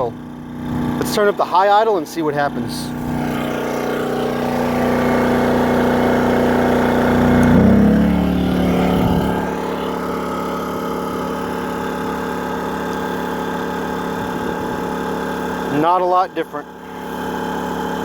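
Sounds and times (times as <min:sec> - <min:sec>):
generator engine idling: 0:00.0 - 0:18.0.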